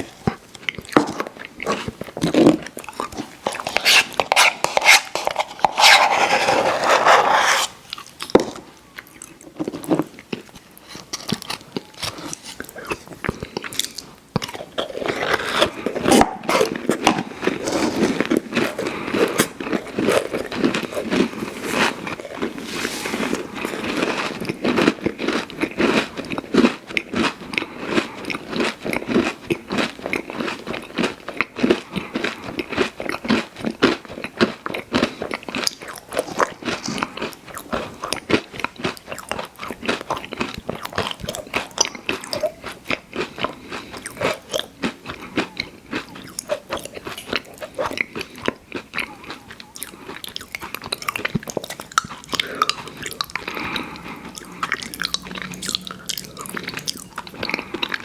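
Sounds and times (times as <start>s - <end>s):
chewing and crunching candy: 0.0s - 58.0s.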